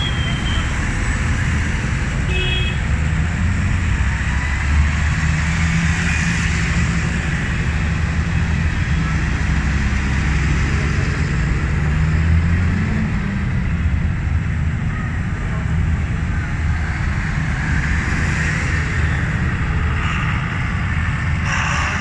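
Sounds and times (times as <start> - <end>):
tractors driving past: 0.0 - 22.0.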